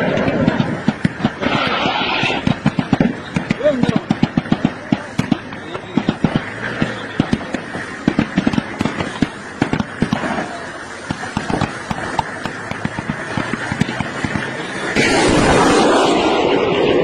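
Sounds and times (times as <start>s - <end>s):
loud continuous rush of noise: 0.0s - 17.0s
rapid gunfire: 0.0s - 17.0s.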